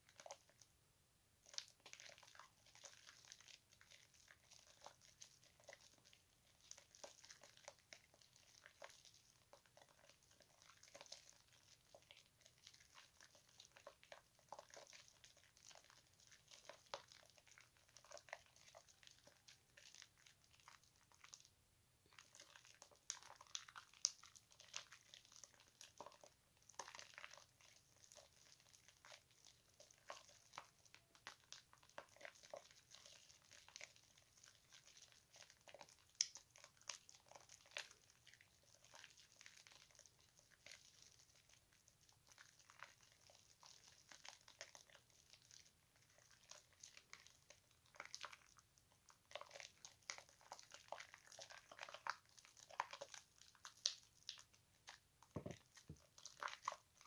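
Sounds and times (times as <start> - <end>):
wet squishing of soap lather: 0.0 - 0.7, 1.4 - 57.0.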